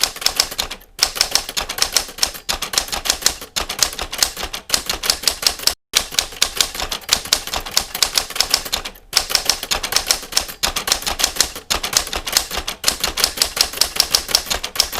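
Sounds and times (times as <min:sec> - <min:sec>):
typewriter keys striking: 0:00.0 - 0:14.9.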